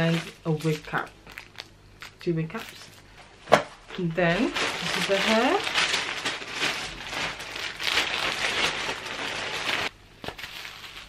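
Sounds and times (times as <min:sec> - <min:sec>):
plastic packaging rustling: 0:00.0 - 0:03.1, 0:03.9 - 0:11.0.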